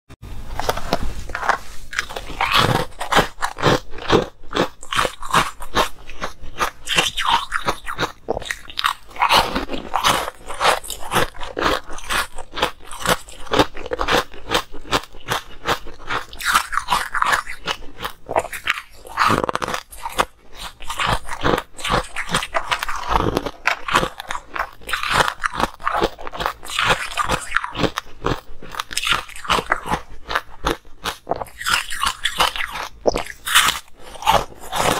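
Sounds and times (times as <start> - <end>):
ice crunching between teeth: 0.6 - 34.9.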